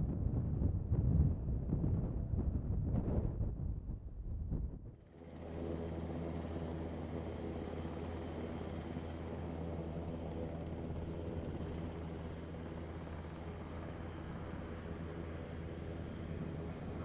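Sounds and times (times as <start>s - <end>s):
jet engines at take-off thrust: 0.0s - 17.0s.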